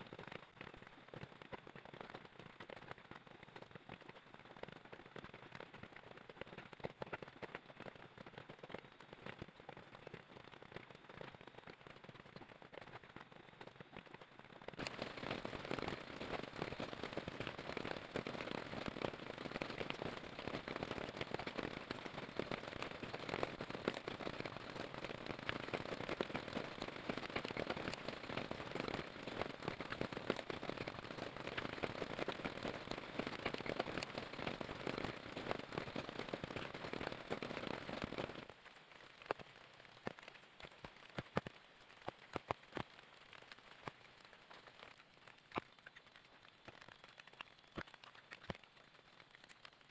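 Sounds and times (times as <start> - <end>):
campfire crackling: 0.0 - 49.9
heavy rain on tent fabric: 0.0 - 49.9.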